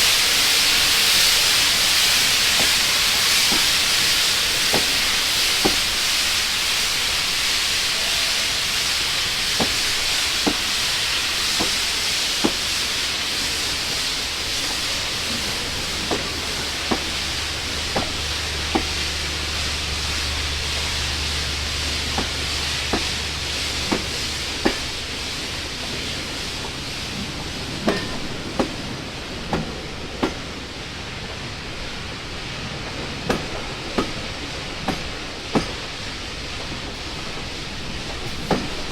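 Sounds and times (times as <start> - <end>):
steam locomotive hissing: 0.0 - 38.9
wheels clicking over rail joints: 0.0 - 38.9.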